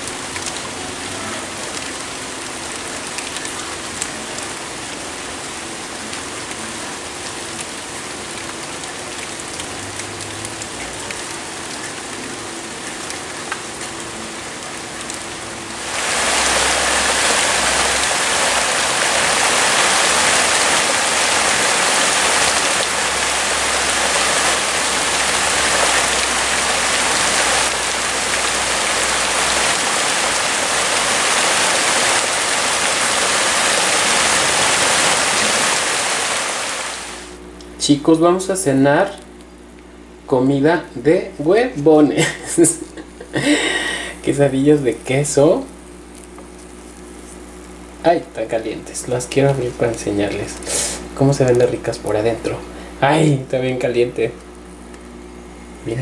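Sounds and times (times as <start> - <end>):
heavy rain pouring: 0.0 - 37.4, 41.5 - 53.5.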